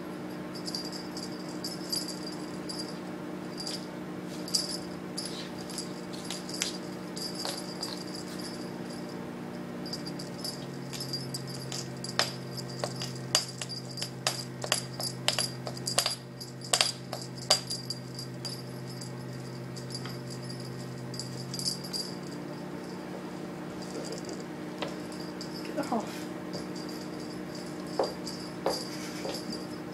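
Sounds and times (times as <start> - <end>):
steady low hum: 0.0 - 29.9
cat toy rattling and jingling: 0.5 - 9.2, 9.8 - 29.9.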